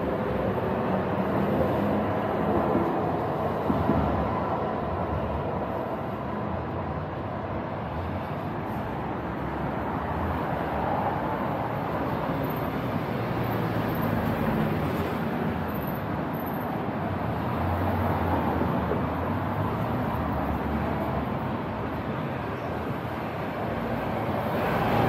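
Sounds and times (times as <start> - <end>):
traffic hum: 0.0 - 25.0.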